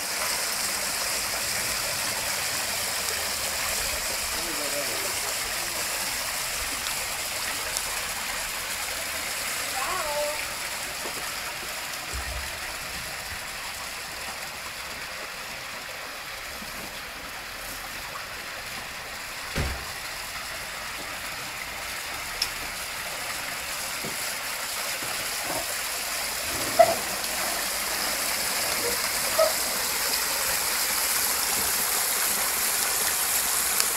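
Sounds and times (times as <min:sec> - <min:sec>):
water splashing over stones: 0:00.0 - 0:33.9.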